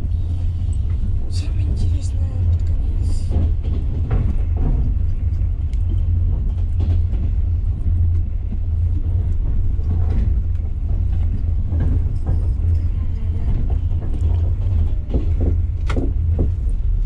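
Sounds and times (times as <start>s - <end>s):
moving train rumble: 0.0s - 17.0s.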